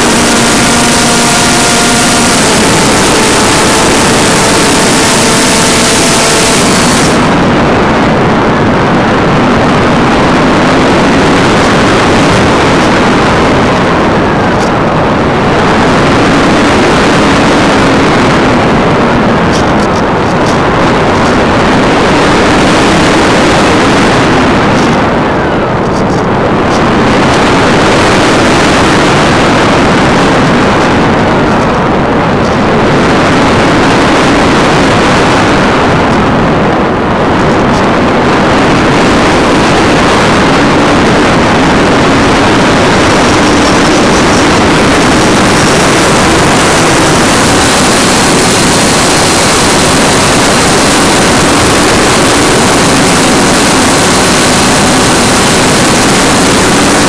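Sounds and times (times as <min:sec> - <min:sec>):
electric motor and propeller noise: 0:00.0 - 0:57.0
rush of airflow: 0:00.0 - 0:57.0.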